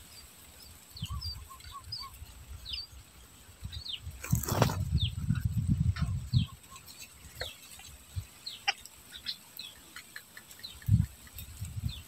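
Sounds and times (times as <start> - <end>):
bird calls and chirps: 0.0 - 12.0.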